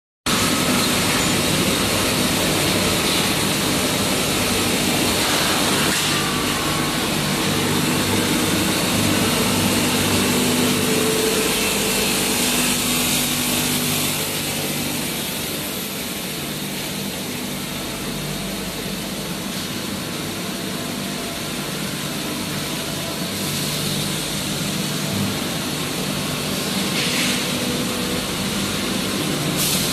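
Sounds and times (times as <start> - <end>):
pipe mill machinery running: 0.3 - 29.9.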